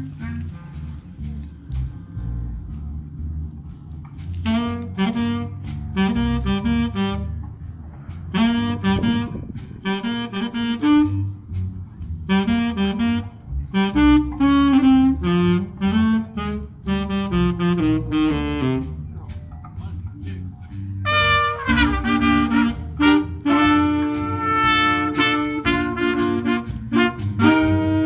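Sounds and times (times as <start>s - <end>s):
low bass notes: 0.0s - 28.0s
big band playing jazz: 3.9s - 19.3s, 19.9s - 28.0s.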